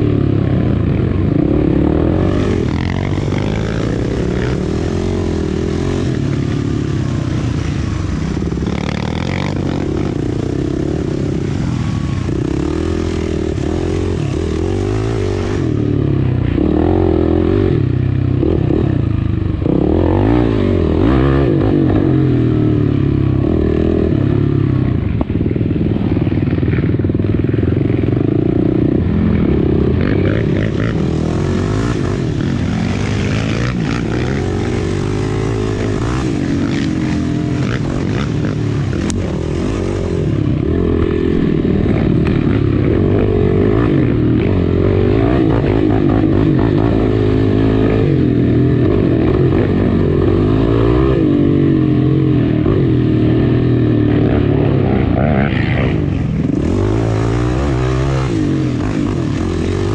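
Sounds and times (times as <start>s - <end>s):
quad engine revving: 0.0s - 24.8s, 27.7s - 59.9s.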